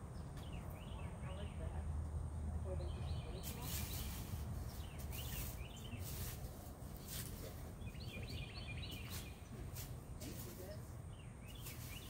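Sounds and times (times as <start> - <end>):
low outdoor rumble: 0.0 - 12.0
small songbirds chirping: 0.0 - 12.0.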